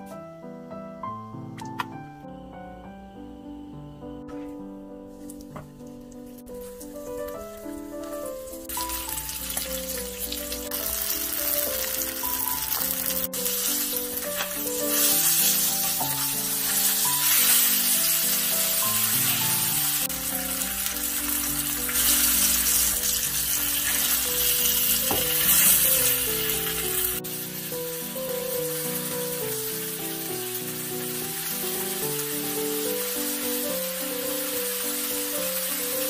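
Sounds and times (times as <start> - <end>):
melodic music: 0.0 - 36.0
fish sizzling in oil: 6.3 - 36.0.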